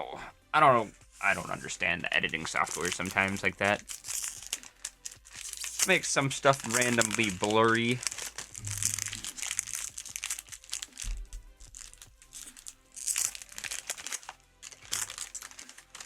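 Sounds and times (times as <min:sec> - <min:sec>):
quiet background music: 0:00.0 - 0:16.0
foil wrappers crinkling: 0:01.2 - 0:16.0.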